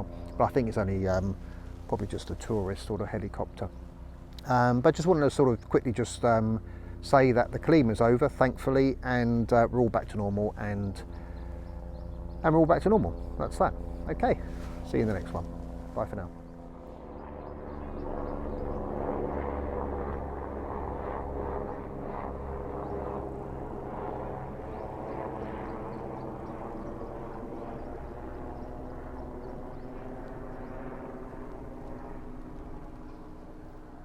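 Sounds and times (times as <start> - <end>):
helicopter droning overhead: 0.0 - 34.0.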